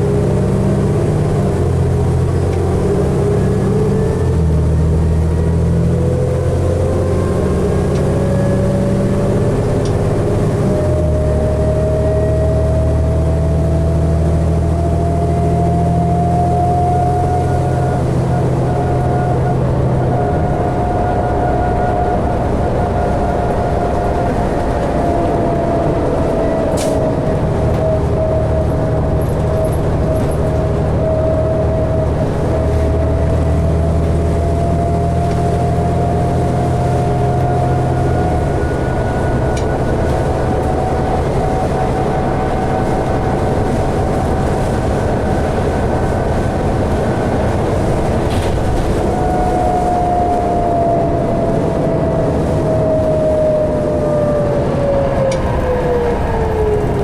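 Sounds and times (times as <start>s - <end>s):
bus interior ride noise: 0.0s - 57.0s
drivetrain whine: 0.0s - 57.0s.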